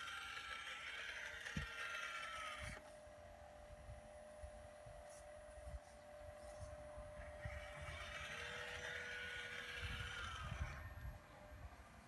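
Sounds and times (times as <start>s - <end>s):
hydraulic pump whining: 0.0s - 5.8s, 6.4s - 11.3s
low steady hum: 0.0s - 12.0s.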